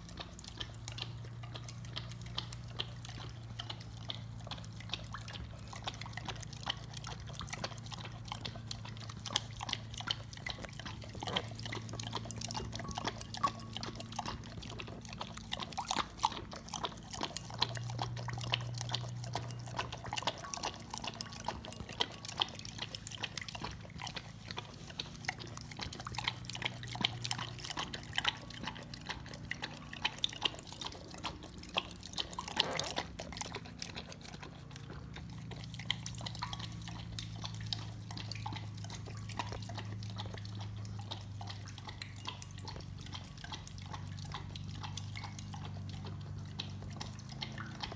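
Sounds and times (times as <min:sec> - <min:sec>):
dog lapping milk: 0:00.0 - 0:47.9
low steady hum: 0:00.0 - 0:47.9.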